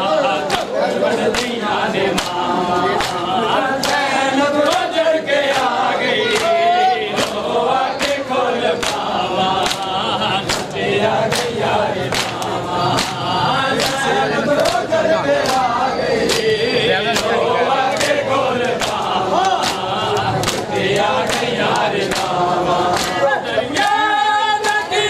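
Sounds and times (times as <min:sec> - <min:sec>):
men chanting together: 0:00.0 - 0:25.0.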